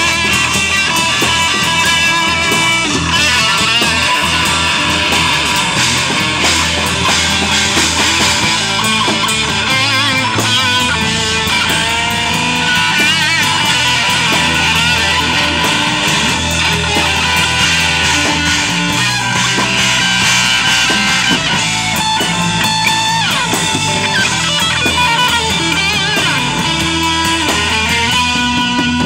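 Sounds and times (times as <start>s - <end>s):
blues band playing: 0.0s - 29.0s
electric guitar lead bending notes: 0.0s - 29.0s.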